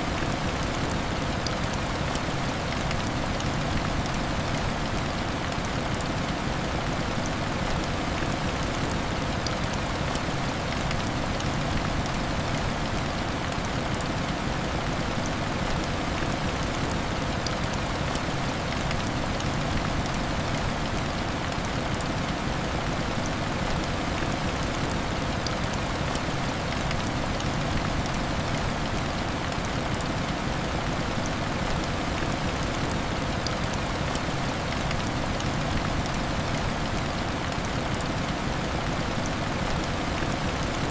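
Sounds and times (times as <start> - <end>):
raindrop ticks: 0.1 - 40.9.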